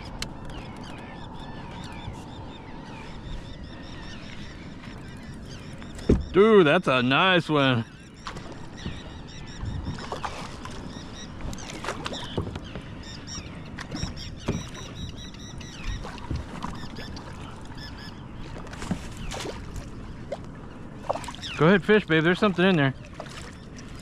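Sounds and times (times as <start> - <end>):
water sloshing around kayak: 0.0 - 24.0.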